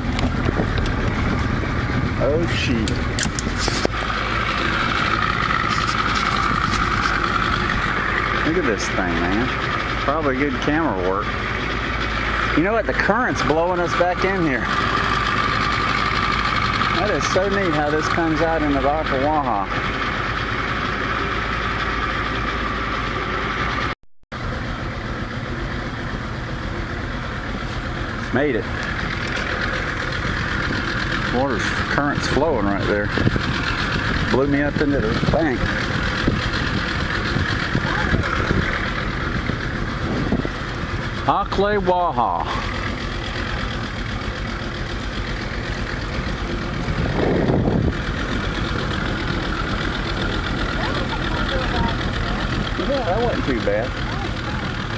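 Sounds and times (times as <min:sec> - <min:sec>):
low rush: 0:00.0 - 0:19.7, 0:24.4 - 0:54.9
outboard motor running: 0:00.0 - 0:54.9.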